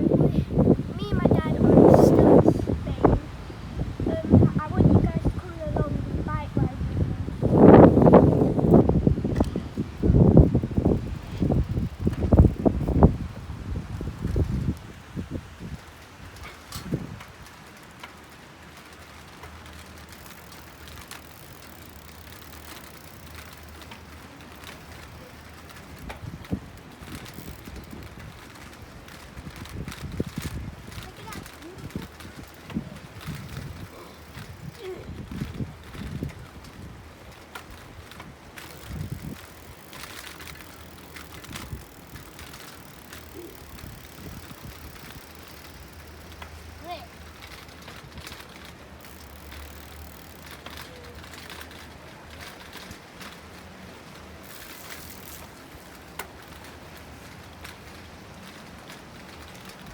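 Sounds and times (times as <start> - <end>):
bicycle riding rumble: 0.0 - 59.9.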